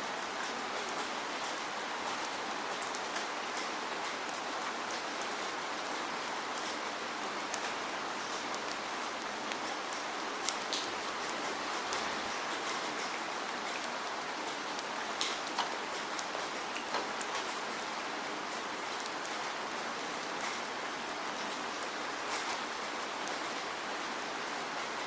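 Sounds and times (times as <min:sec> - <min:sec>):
steady rain hiss: 0:00.0 - 0:25.0
raindrops ticking on a surface: 0:00.1 - 0:25.0.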